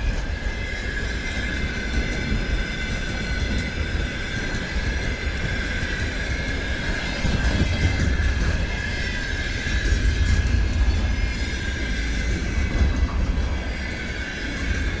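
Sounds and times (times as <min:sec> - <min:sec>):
train wagons rumbling: 0:00.0 - 0:15.0
wheels ringing on rails: 0:00.0 - 0:15.0.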